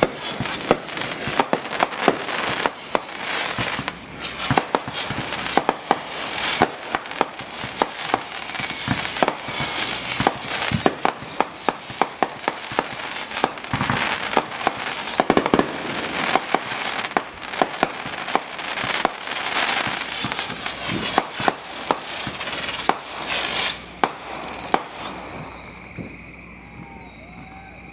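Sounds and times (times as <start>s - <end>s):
fireworks shell bursts: 0.0s - 25.3s
fireworks crackle: 0.0s - 27.9s
fireworks whistles dropping in pitch: 0.0s - 27.9s.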